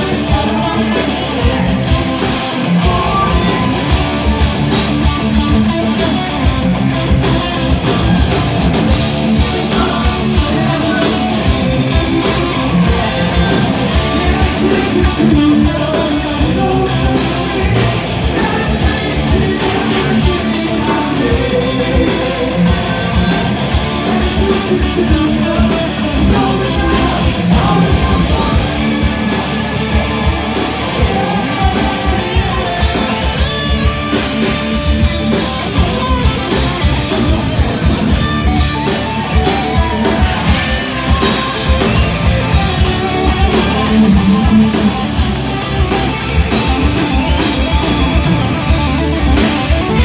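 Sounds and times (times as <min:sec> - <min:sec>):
hard rock band playing live: 0:00.0 - 0:50.0.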